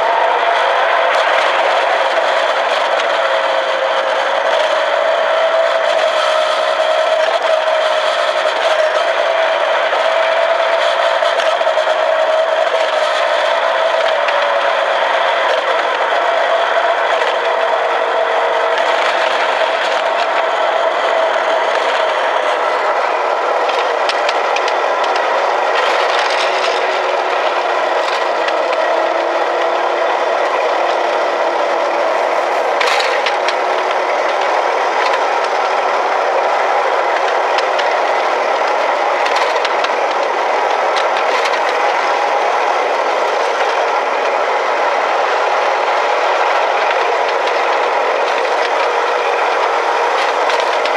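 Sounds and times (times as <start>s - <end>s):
train wheels rattling on rails: 0.0s - 50.9s.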